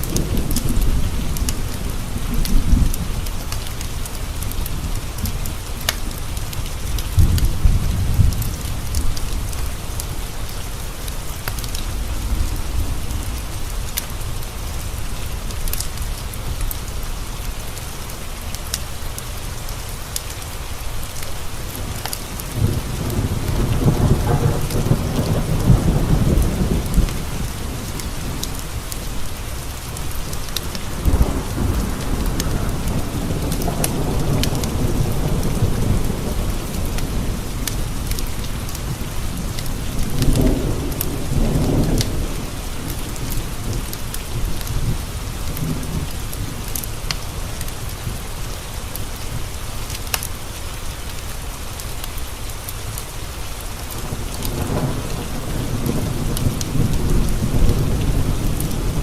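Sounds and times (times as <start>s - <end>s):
thunder rumbling: 0.0s - 17.7s, 21.7s - 48.4s, 53.8s - 59.0s
steady rain: 0.0s - 59.0s.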